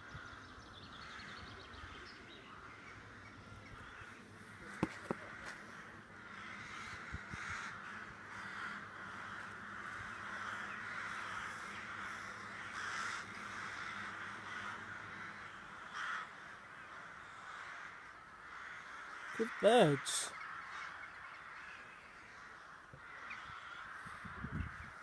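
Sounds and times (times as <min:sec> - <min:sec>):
crows cawing: 0:00.0 - 0:25.0.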